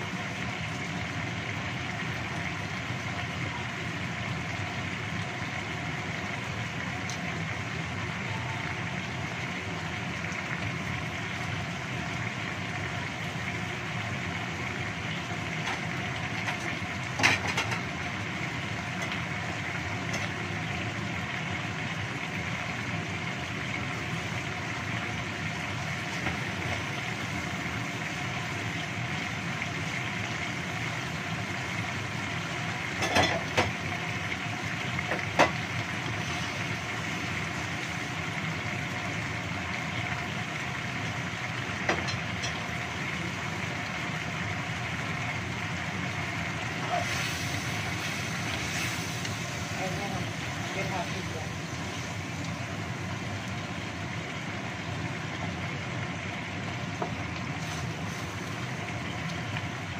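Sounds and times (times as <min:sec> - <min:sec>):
gas burner noise: 0:00.0 - 0:59.9
sauce bubbling in a wok: 0:00.0 - 0:59.9.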